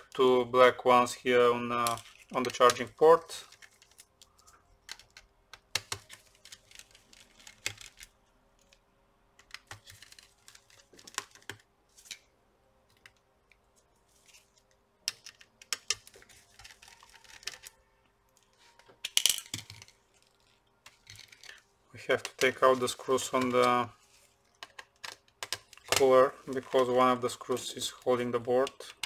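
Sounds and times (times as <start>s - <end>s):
handling small parts: 1.7s - 29.0s.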